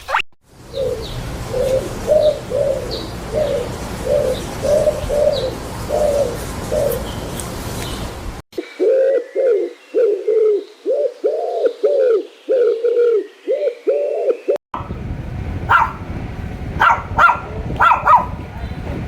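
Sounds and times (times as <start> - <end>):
bird calling: 0.6 - 8.0, 8.6 - 19.0.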